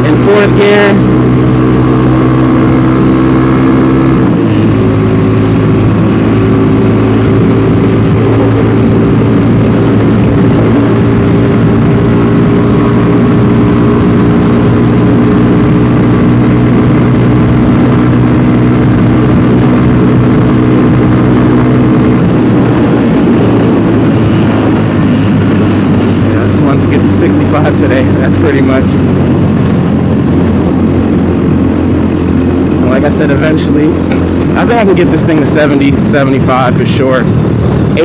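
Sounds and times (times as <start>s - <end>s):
motorcycle engine drone: 0.0s - 38.0s.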